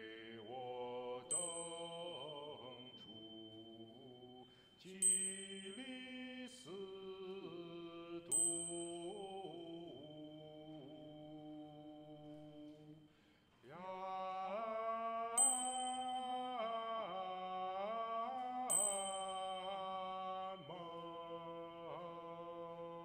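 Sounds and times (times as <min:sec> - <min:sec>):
high bright ringing strike: 0:00.0 - 0:13.0, 0:15.1 - 0:23.0.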